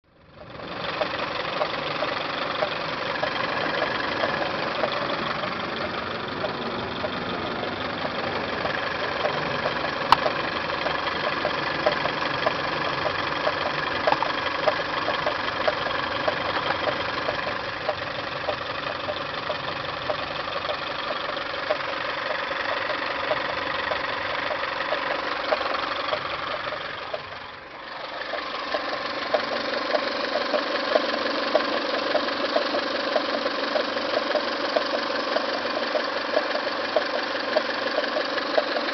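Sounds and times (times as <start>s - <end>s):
car engine idling: 0.0s - 38.9s
quick regular engine ticking: 0.0s - 38.9s.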